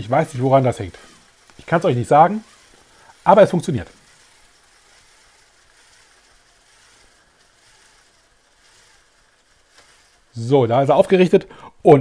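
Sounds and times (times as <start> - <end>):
small electric motors whirring: 0.0 - 11.4.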